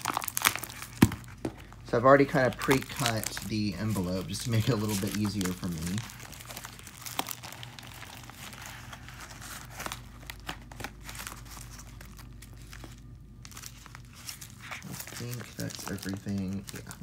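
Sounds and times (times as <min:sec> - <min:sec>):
metallic mailer crinkling: 0:00.0 - 0:17.0.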